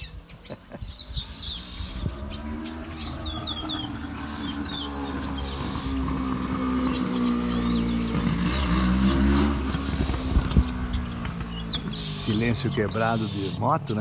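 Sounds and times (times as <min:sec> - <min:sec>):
small birds chirping: 0:00.0 - 0:14.0
motorcycle engine drone: 0:00.1 - 0:14.0.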